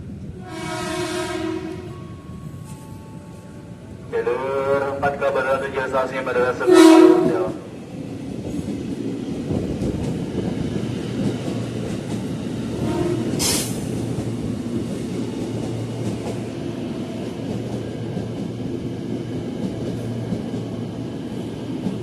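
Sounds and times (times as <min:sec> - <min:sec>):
electric train rumbling on track: 0:00.0 - 0:22.0.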